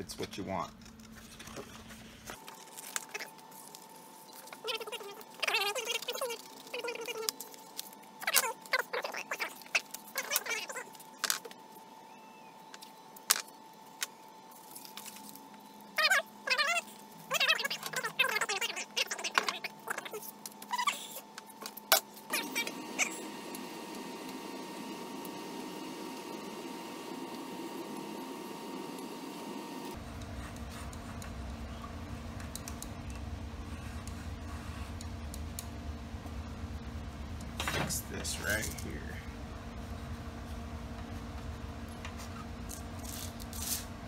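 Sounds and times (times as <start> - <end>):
workshop background noise: 0.0 - 44.0.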